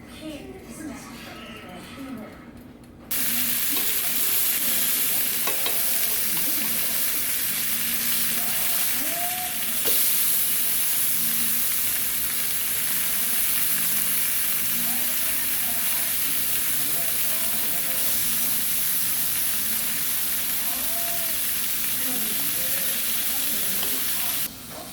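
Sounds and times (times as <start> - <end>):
meat sizzling on a grill: 3.1 - 24.6.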